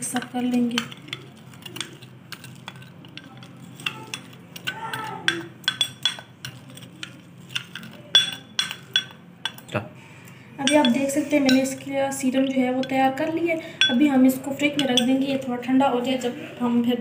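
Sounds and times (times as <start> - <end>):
metal spoon clinking on glass bowl: 0.0 - 9.7, 10.6 - 11.9, 12.5 - 15.4.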